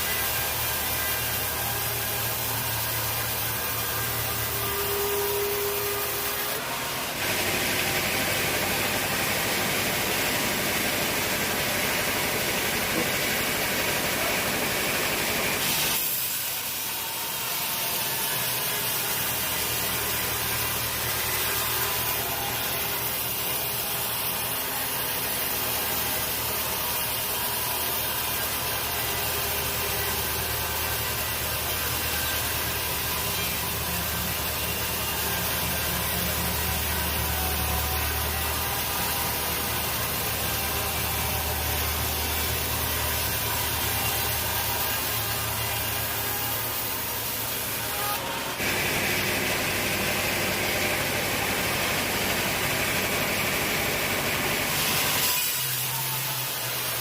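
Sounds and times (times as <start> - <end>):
saw cutting through log: 0.0 - 57.0.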